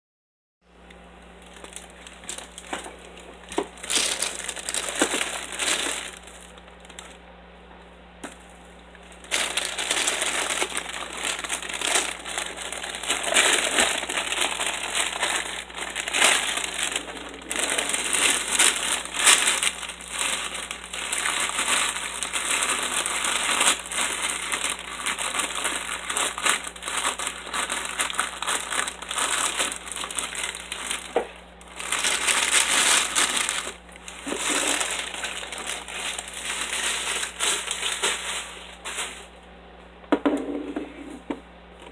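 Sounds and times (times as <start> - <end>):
plastic bag crinkling: 1.2 - 7.2, 8.2 - 39.4.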